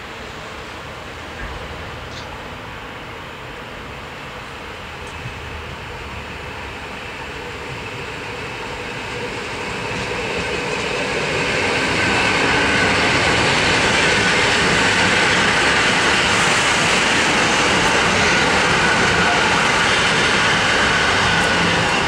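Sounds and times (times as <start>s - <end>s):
electric train running past: 0.0s - 22.0s
train wheels and motors: 0.0s - 22.0s.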